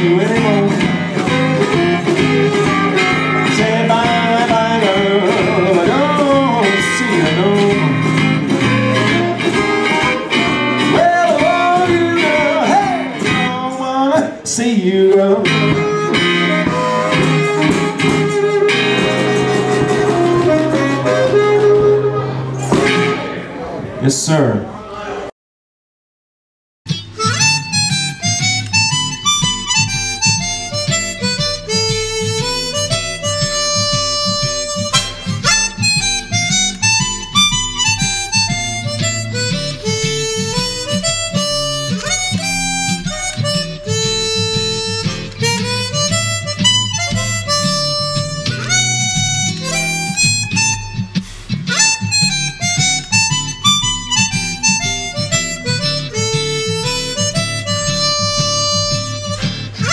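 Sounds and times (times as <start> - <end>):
blues harmonica playing: 0.0 - 13.9, 14.9 - 23.6, 26.9 - 59.9
rhythmic guitar accompaniment: 0.0 - 23.9, 26.9 - 59.9.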